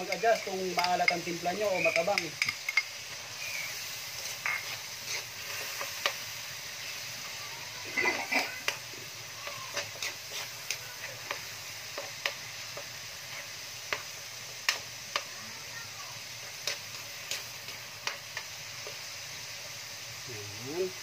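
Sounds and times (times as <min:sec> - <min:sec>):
spoon scraping wok: 0:00.0 - 0:07.3, 0:07.9 - 0:15.3, 0:16.2 - 0:19.6
fish frying in oil sizzling: 0:00.0 - 0:21.0.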